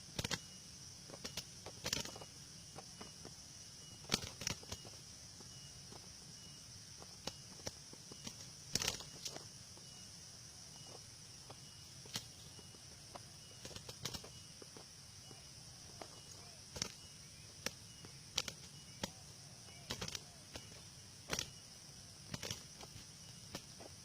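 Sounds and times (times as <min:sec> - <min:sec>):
doves scuffling and fluttering: 0:00.0 - 0:24.0
high insect chirring: 0:00.0 - 0:24.0.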